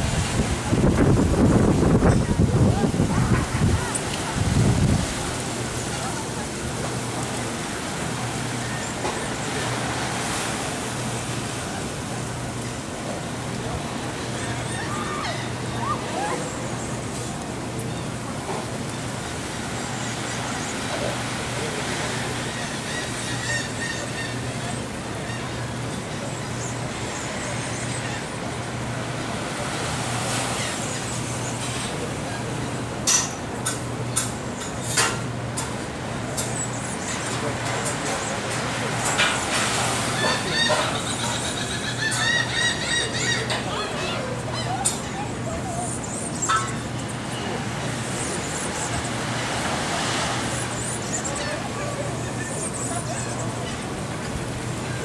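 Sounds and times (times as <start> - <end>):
outdoor background noise: 0.0 - 55.0
surf: 0.0 - 55.0
wind: 0.0 - 55.0.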